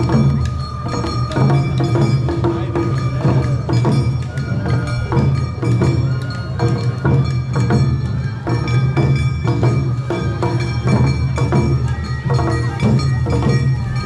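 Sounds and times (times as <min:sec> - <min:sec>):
bell-like metal ringing: 0:00.0 - 0:14.0
festival drum strikes: 0:00.0 - 0:14.0.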